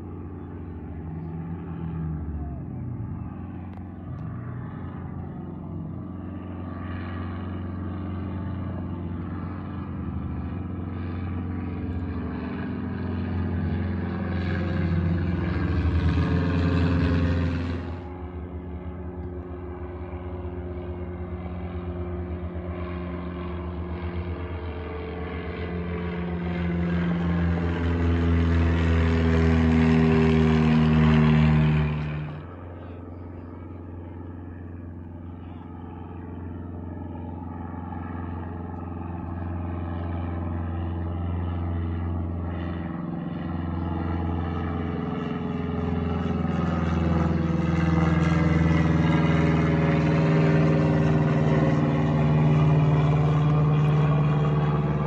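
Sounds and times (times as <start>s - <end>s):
propeller plane droning: 0.0s - 55.0s.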